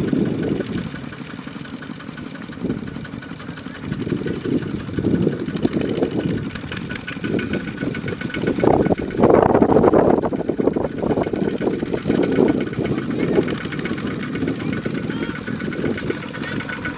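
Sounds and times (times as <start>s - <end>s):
diesel tractor engine chugging: 0.0s - 16.9s.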